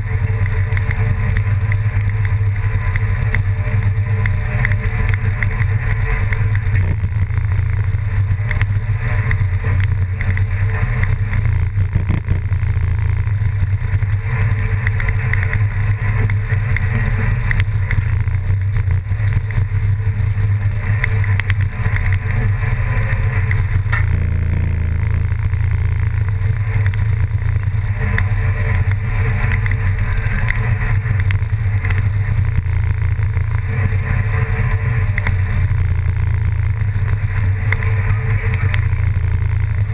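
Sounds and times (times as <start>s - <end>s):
engine droning steadily: 0.0s - 39.9s
rushing noise: 0.0s - 39.9s.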